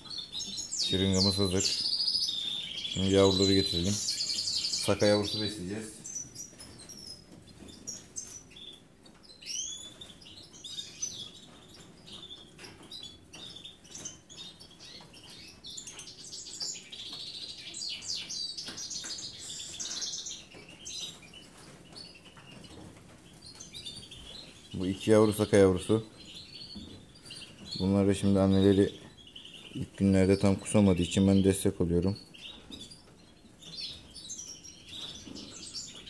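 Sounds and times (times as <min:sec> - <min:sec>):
small songbirds chirping: 0:00.0 - 0:36.0.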